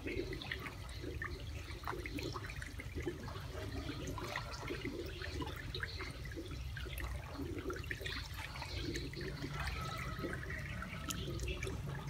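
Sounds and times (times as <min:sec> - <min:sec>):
water splashing in plastic basin: 0:00.0 - 0:12.0.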